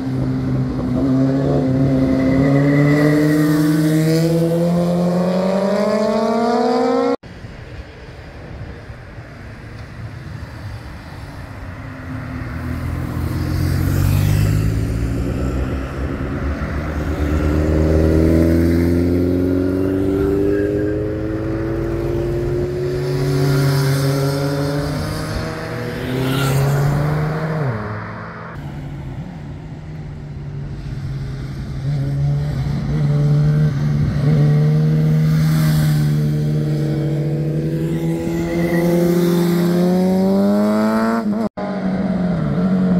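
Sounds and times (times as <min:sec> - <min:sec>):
motorcycle engines accelerating past: 0:00.0 - 0:07.2, 0:12.1 - 0:28.6, 0:30.8 - 0:42.9.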